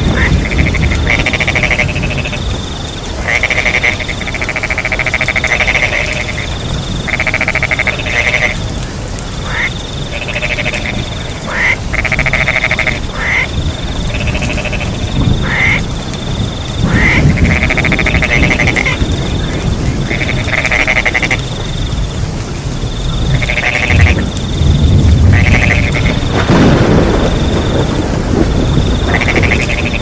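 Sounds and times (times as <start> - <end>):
crickets chirring: 0.0 - 30.0
frogs calling in trills: 0.0 - 30.0
rain and wind rumble: 0.0 - 30.0.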